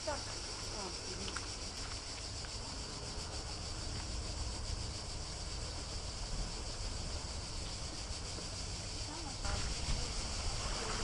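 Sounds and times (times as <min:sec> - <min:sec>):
constant high hiss: 0:00.0 - 0:11.0.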